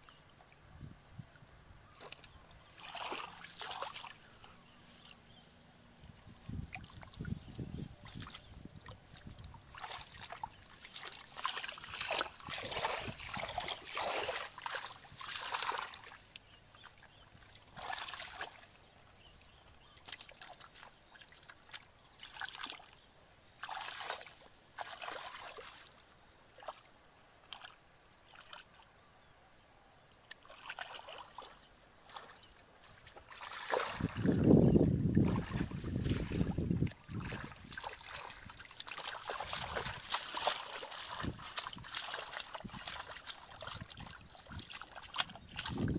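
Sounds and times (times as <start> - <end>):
muddy water splashing: 1.9 - 28.9, 30.2 - 45.9.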